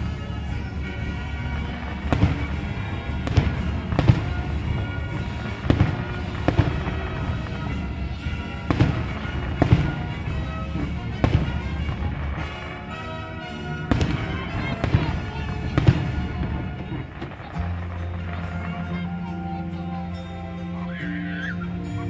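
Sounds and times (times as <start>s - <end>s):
firework shells bursting: 0.0s - 19.5s
music playing: 0.0s - 22.0s.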